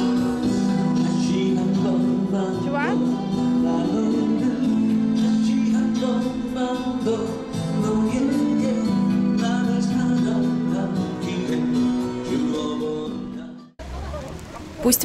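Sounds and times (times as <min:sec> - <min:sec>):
song with guitar and singing: 0:00.0 - 0:13.8.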